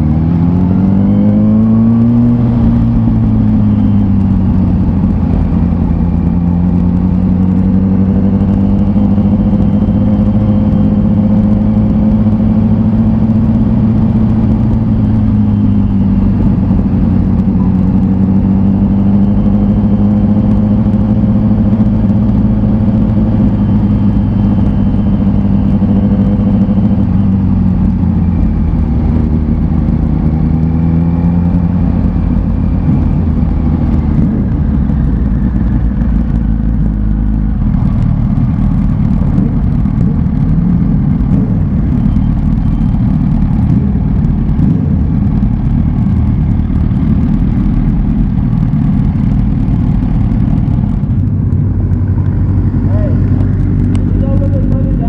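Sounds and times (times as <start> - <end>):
motorcycle engine revving: 0.0 - 55.0
wind rumbling on camera: 0.0 - 55.0.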